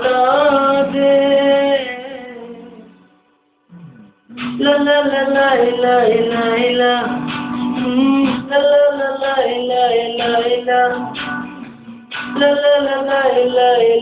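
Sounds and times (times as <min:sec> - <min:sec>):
man singing into a microphone: 0:00.0 - 0:03.0, 0:04.4 - 0:11.2, 0:12.3 - 0:14.0
guitar-backed music: 0:00.0 - 0:14.0.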